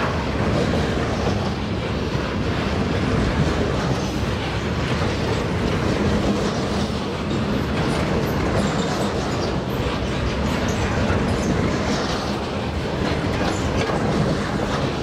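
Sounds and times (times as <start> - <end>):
train wheels clattering: 0.0 - 15.0.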